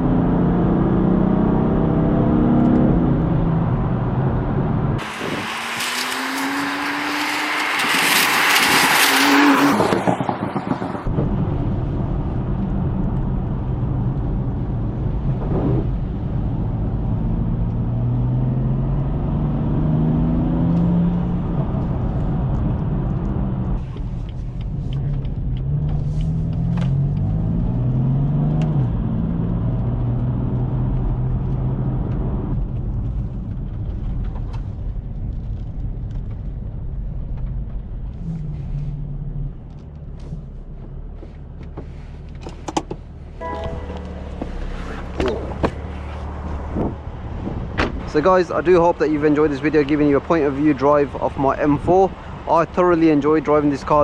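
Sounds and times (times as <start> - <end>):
car engine accelerating through gears: 0.0 - 48.2.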